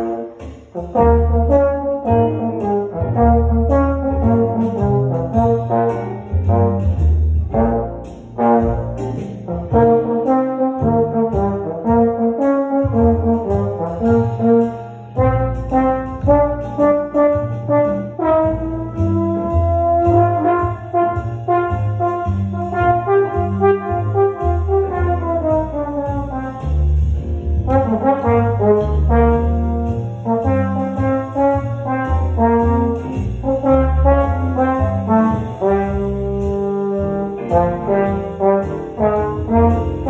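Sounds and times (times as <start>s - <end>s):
trombone solo melody: 0.0s - 40.0s.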